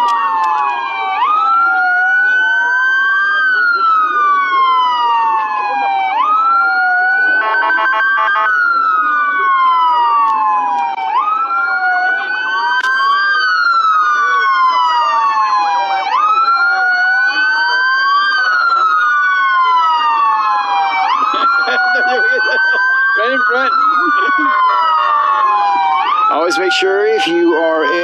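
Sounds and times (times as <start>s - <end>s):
emergency vehicle sirens wailing: 0.0s - 28.0s.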